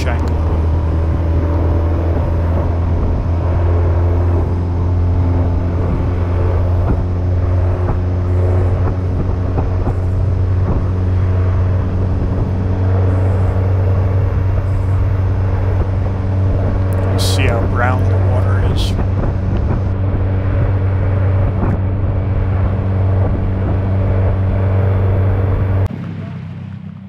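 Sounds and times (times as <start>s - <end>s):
wake water churning: 0.0s - 25.3s
outboard motor hum: 0.0s - 27.0s.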